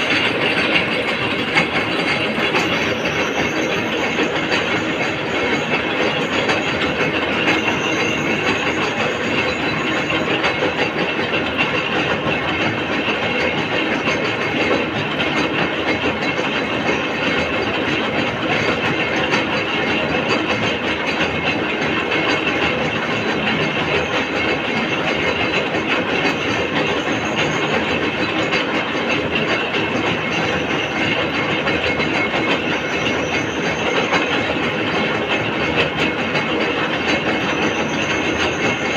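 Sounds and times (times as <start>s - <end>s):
machine clattering: 0.0s - 38.9s.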